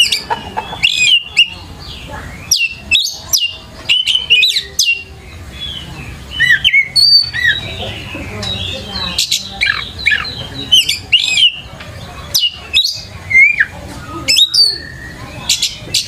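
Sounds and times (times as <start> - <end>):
bird singing whistled notes: 0.0 - 16.0.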